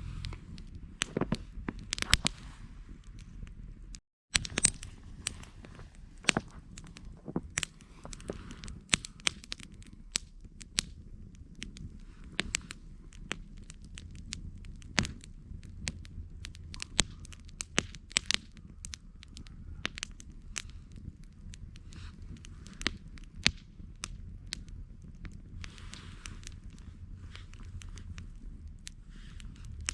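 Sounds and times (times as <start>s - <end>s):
campfire crackling and popping: 0.0s - 29.9s
steady low hum: 0.0s - 29.9s.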